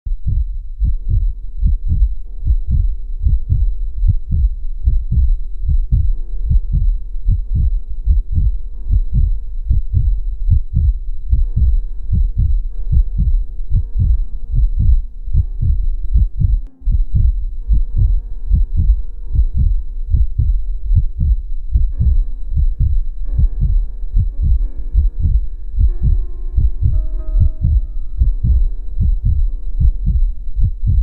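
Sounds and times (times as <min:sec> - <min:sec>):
heartbeat thumps: 0:00.1 - 0:31.0
steady hum of sustained tones: 0:00.1 - 0:31.0.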